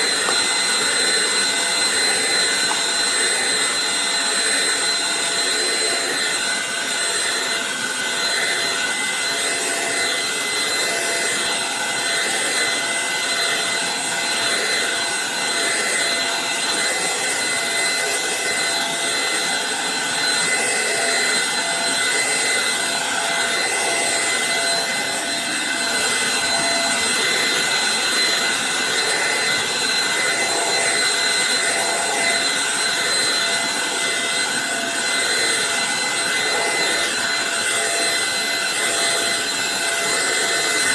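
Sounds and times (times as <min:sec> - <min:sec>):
stick vacuum running: 0:00.0 - 0:40.9.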